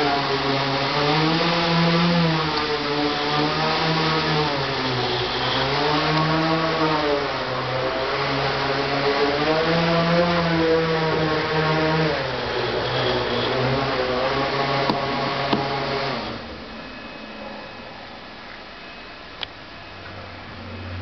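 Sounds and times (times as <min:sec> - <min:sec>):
model helicopter motor whine: 0:00.0 - 0:17.9.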